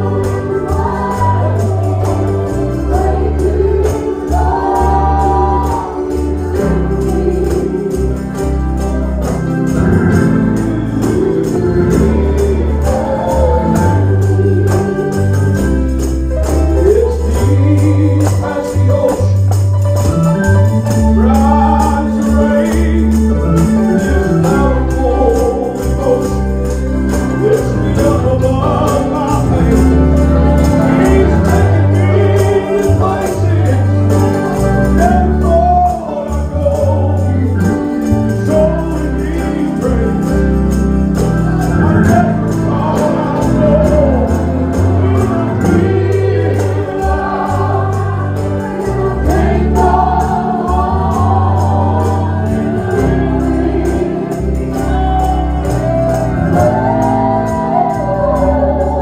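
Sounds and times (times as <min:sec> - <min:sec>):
group singing gospel: 0:00.0 - 0:59.0.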